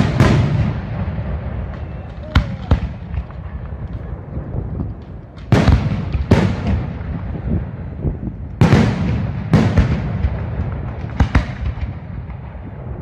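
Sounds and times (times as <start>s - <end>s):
low rumble of explosions: 0.0s - 13.0s.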